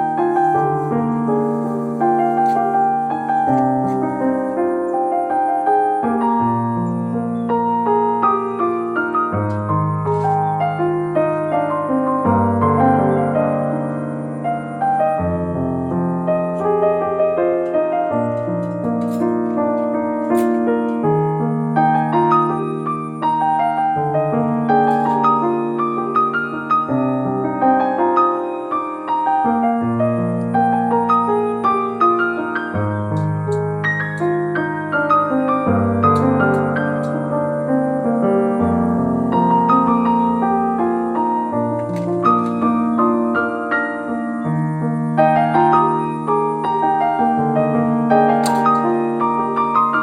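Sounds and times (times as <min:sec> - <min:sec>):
soft piano chords and melody: 0:00.0 - 0:50.0.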